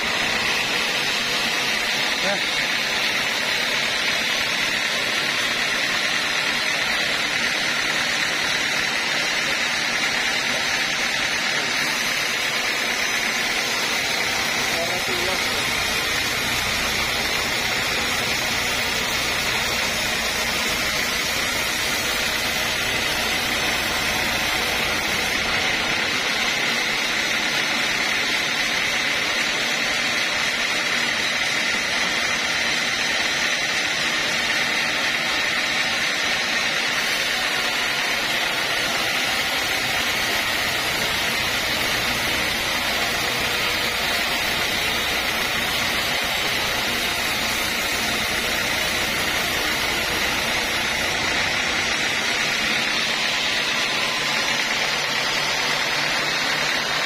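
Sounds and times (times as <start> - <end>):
band saw cutting whine: 0.0 - 57.0.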